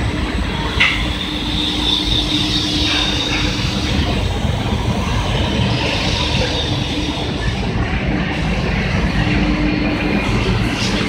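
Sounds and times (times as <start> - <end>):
constant low hum: 0.0 - 11.0
factory machinery din: 0.0 - 11.0
high machine whine: 0.0 - 11.0.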